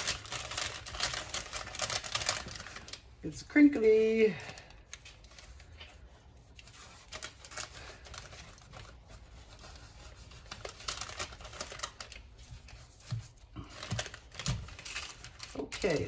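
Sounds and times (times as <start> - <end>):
parchment paper crinkling: 0.0 - 16.0.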